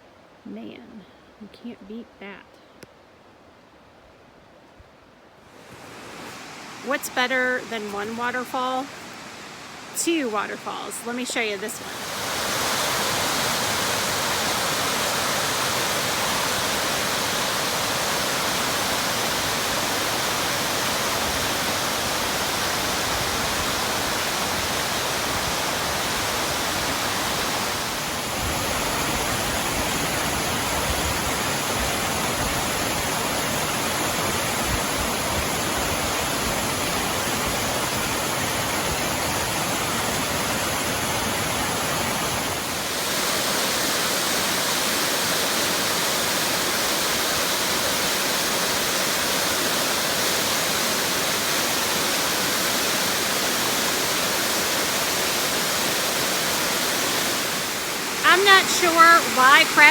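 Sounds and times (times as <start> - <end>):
waterfall rushing: 5.5 - 59.9.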